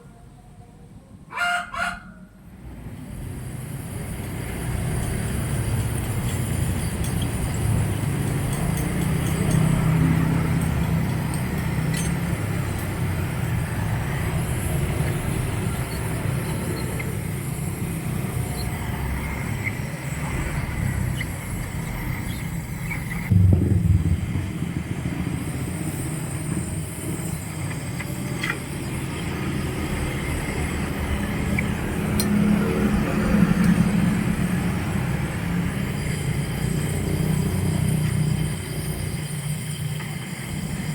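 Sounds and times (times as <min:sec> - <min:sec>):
vehicle engine rumbling: 0:02.5 - 0:40.9.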